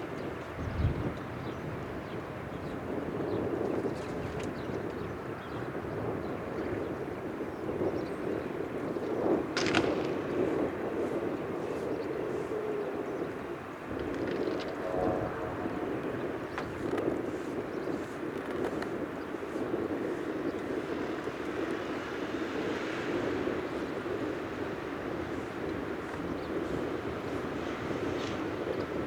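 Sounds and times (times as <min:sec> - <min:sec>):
distant propeller plane engine: 0:00.0 - 0:29.0.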